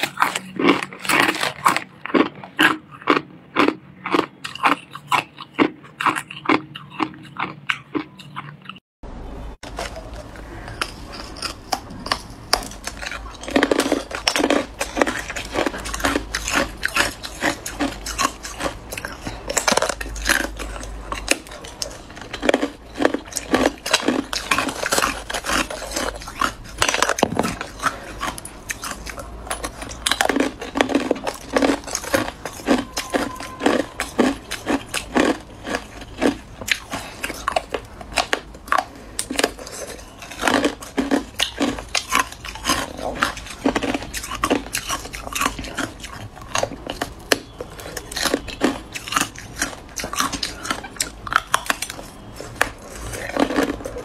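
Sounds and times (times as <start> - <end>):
ice being chewed: 0.0 - 8.8, 9.6 - 54.0.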